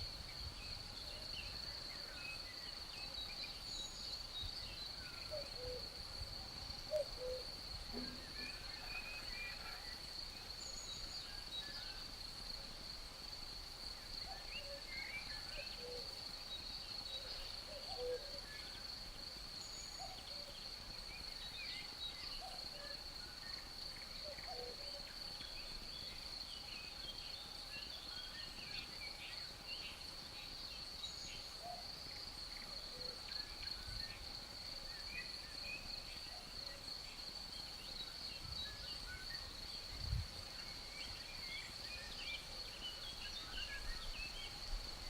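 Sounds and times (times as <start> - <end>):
songbirds chirping: 0.0 - 45.0
crickets trilling: 0.1 - 45.0.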